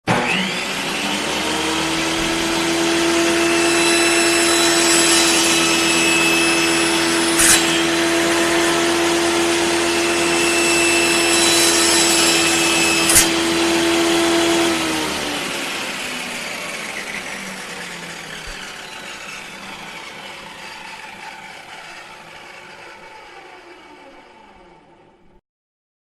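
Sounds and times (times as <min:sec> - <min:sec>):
table saw motor running: 0:00.1 - 0:25.4.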